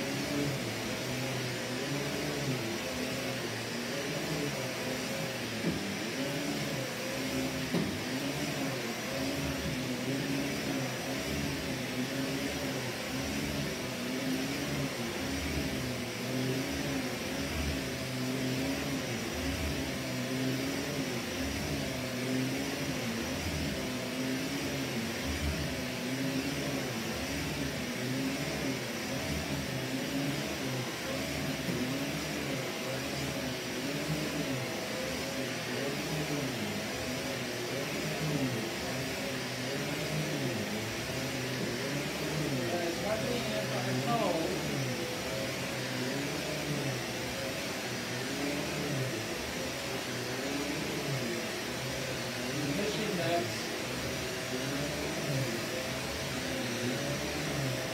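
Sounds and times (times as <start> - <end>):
vacuum cleaner on carpet: 0.0 - 57.9.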